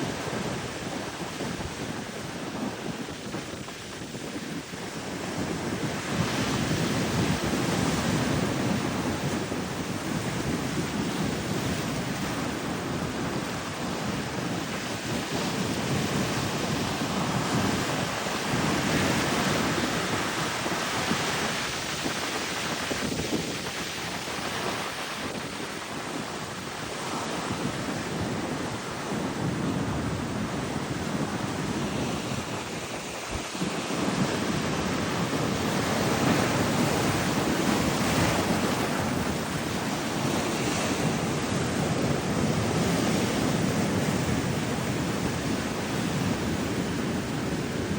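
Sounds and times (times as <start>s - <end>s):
ocean surf breaking: 0.0s - 47.9s
wind rumbling on microphone: 0.0s - 47.9s.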